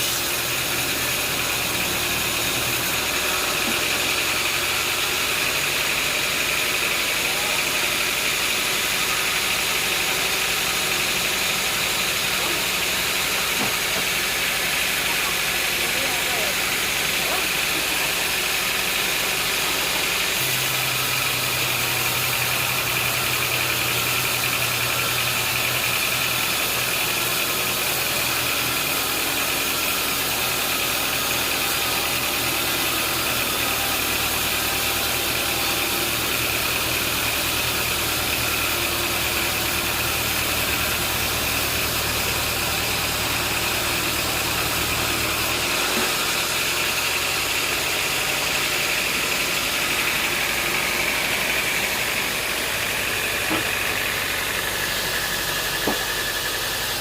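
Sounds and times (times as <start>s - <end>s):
engine running with high whine: 0.0s - 57.0s.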